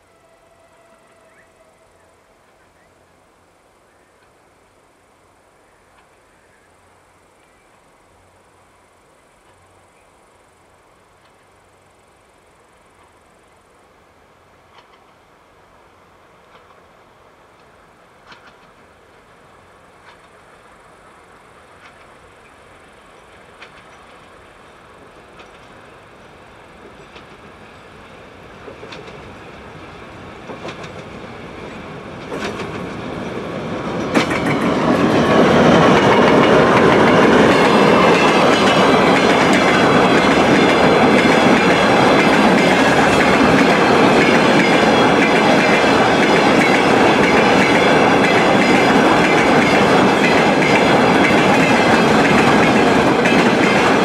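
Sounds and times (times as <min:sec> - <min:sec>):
diesel locomotive passing: 0:00.0 - 0:54.0
freight train rumbling on rails: 0:00.0 - 0:54.0.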